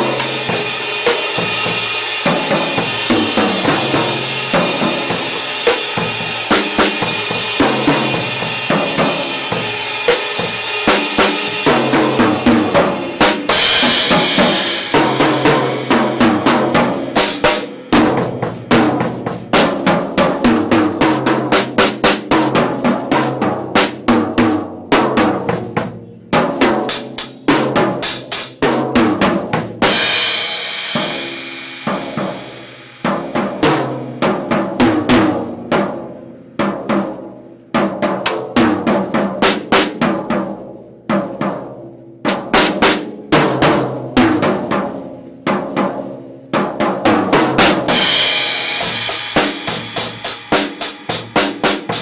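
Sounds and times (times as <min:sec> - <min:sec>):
drum kit solo: 0:00.0 - 0:52.0.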